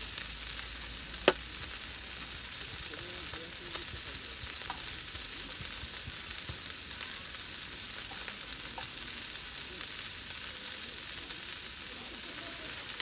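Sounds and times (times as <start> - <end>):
beef sizzling on grill pan: 0.0 - 13.0.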